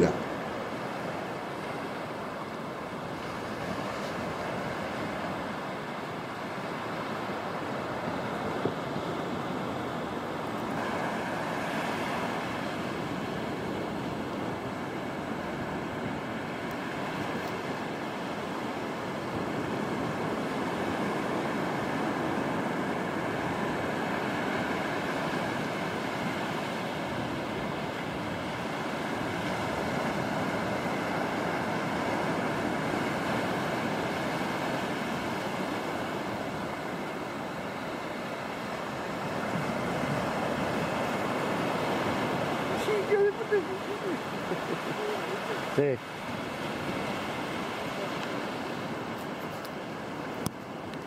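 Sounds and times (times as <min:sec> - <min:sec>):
surf waves breaking: 0:00.0 - 0:51.0.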